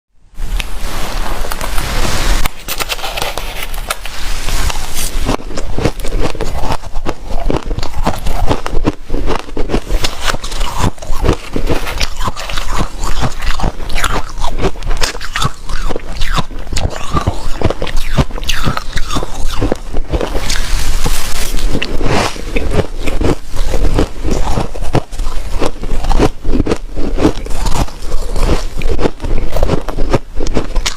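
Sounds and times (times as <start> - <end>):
crunching ice being chewed: 2.4 - 30.9.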